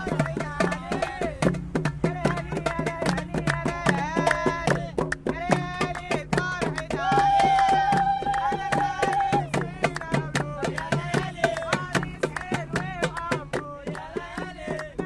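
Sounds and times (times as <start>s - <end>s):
men singing: 0.0s - 15.0s
tabla drum beat: 0.0s - 15.0s.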